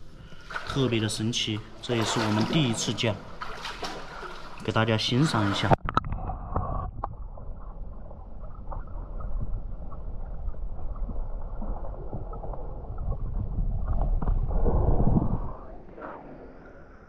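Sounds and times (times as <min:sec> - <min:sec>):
underwater river rumble and gurgle: 0:01.6 - 0:17.0.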